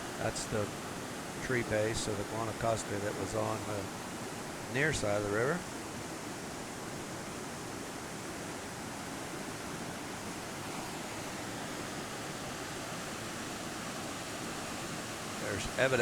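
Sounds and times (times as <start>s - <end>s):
river rushing over bridge: 0.0s - 16.0s.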